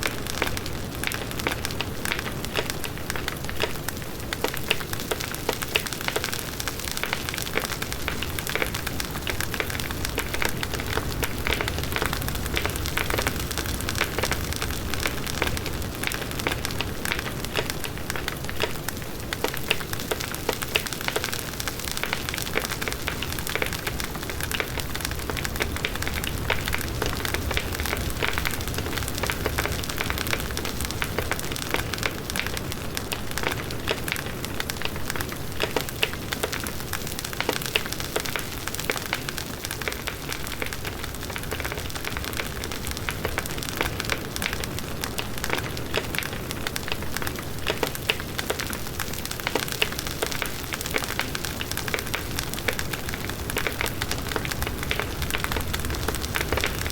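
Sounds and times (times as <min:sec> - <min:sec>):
bonfire crackling and popping: 0:00.0 - 0:56.9.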